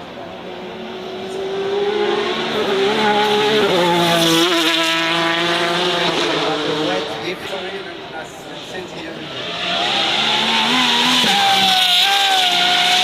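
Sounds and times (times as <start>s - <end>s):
race car engine accelerating: 0.4s - 7.6s, 8.6s - 13.0s.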